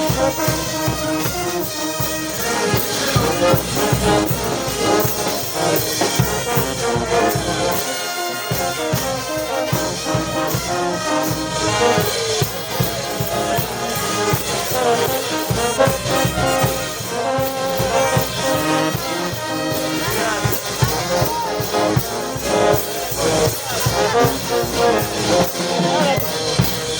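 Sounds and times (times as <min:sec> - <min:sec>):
brass band playing: 0:00.0 - 0:26.9
steady drum beat: 0:00.0 - 0:26.9
trumpets and trombones: 0:00.0 - 0:26.9.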